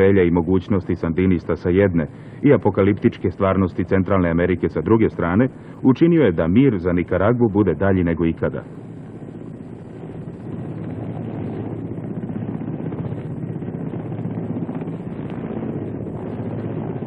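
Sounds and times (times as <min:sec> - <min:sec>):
helicopter engine drone: 0:00.0 - 0:17.0
helicopter rotor chop: 0:00.0 - 0:17.0.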